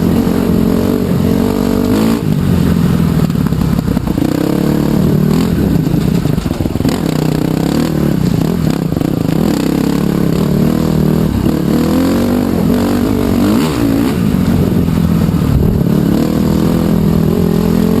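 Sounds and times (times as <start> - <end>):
trail bike engine revving: 0.0 - 18.0.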